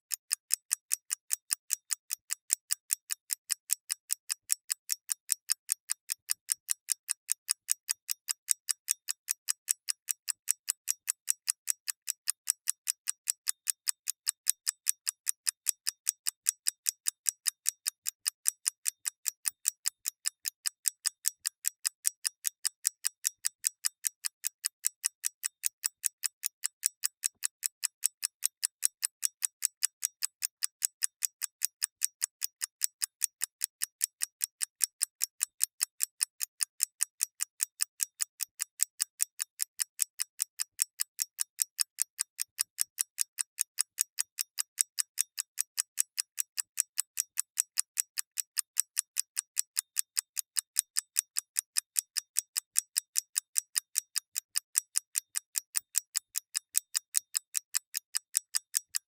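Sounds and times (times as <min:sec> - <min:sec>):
mechanical clock ticking: 0:00.1 - 0:59.0.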